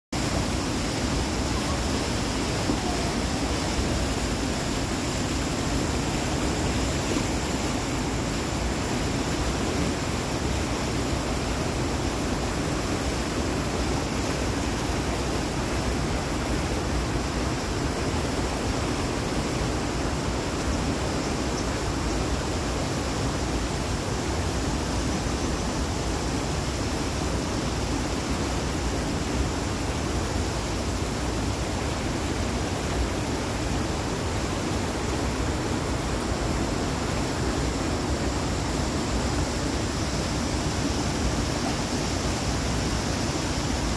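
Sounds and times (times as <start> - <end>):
waterfall rushing: 0.2 - 43.9.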